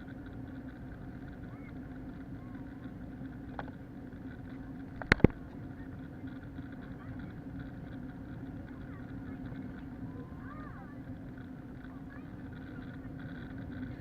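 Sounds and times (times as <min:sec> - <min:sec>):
airplane engine drone in cabin: 0:00.0 - 0:14.0
constant low hum: 0:00.0 - 0:14.0.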